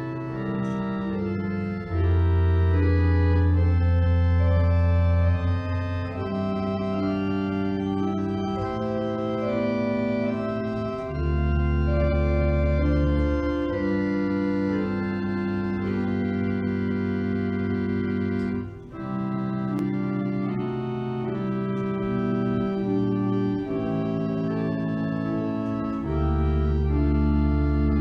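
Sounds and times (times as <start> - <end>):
organ playing slow chords: 0.0 - 28.0.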